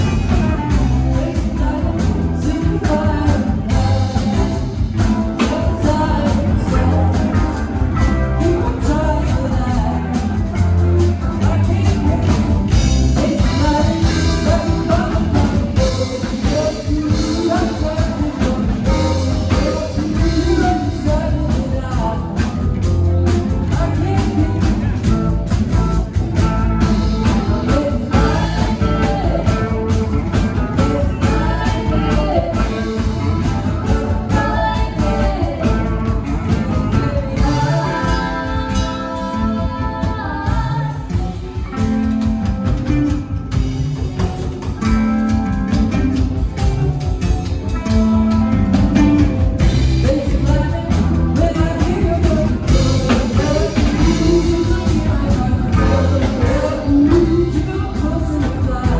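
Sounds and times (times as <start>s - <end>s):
person singing: 0.0s - 43.3s, 44.0s - 58.9s
drum kit: 0.0s - 58.9s
rock band playing live: 0.0s - 58.9s.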